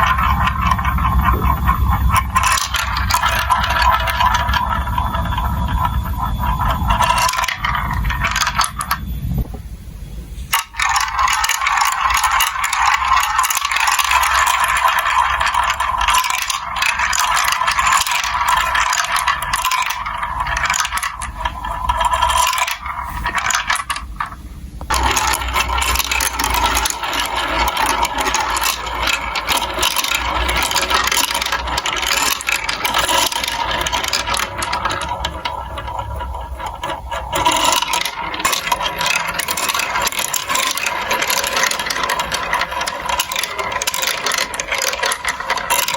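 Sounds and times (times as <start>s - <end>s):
marbles rattling down a plastic run: 0.0s - 9.0s, 10.5s - 45.9s.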